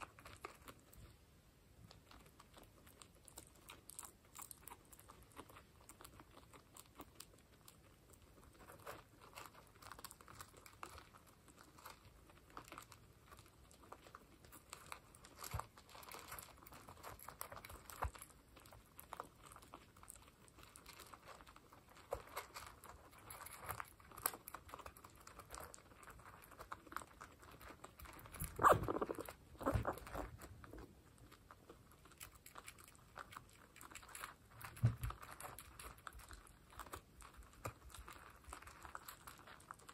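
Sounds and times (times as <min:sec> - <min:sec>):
guinea pigs crunching pellets: 0:00.0 - 0:39.9.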